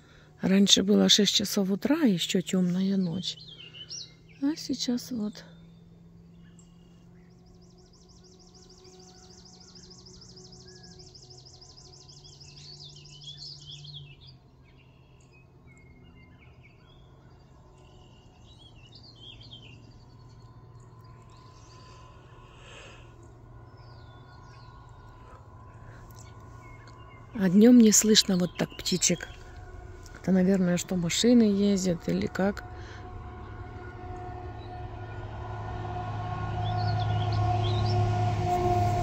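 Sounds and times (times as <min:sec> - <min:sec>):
songbirds singing: 0:00.0 - 0:38.6
faint low hum: 0:00.0 - 0:39.0.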